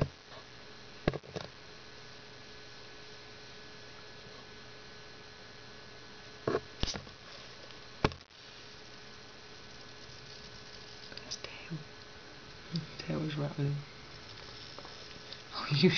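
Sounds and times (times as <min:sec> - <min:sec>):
electrical mains hum: 0:00.0 - 0:15.9.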